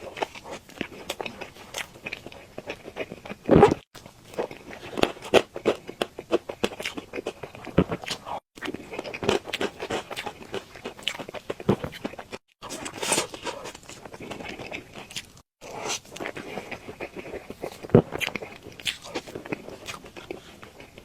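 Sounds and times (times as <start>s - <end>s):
person chewing cake: 0.0s - 21.0s.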